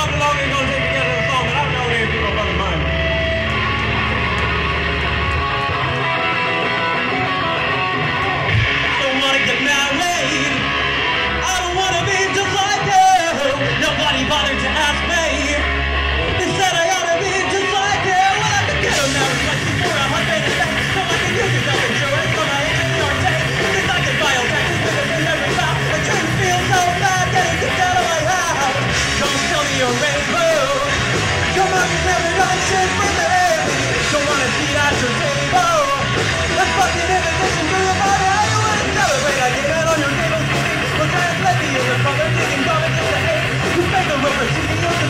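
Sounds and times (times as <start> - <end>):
punk band playing live: 0.0 - 45.0.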